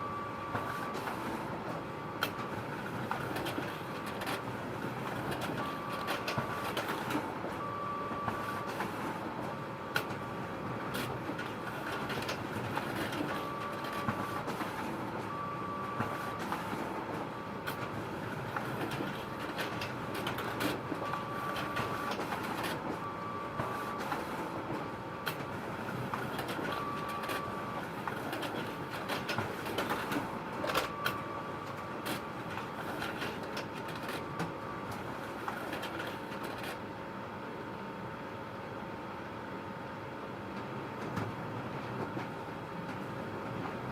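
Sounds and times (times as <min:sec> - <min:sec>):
photocopier running: 0:00.0 - 0:37.4.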